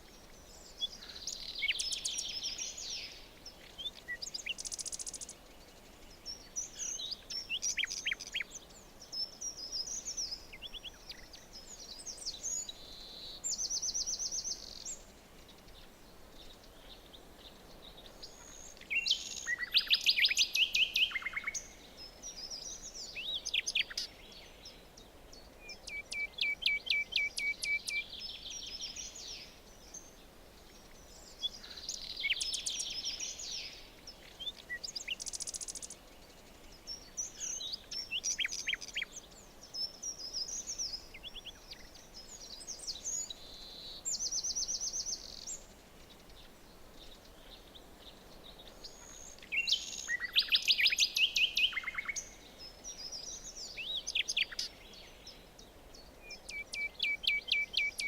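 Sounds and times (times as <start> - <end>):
faint background hiss: 0.0 - 58.0
songbirds singing and calling: 0.0 - 58.0.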